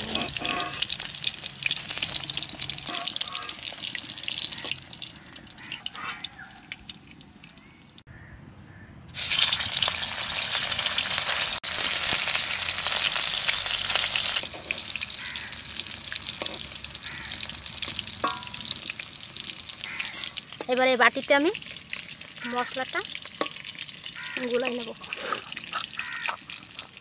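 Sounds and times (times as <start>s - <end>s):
dumplings sizzling in oil: 0.0s - 7.7s, 9.1s - 27.0s.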